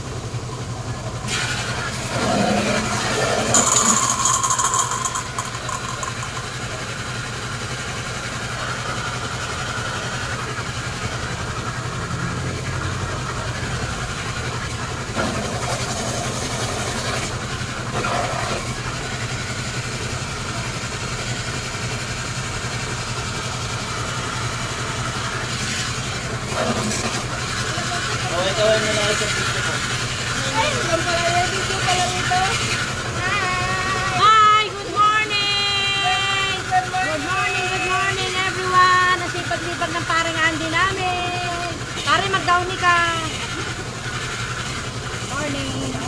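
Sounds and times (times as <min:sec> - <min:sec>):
machine humming: 0:00.0 - 0:46.0.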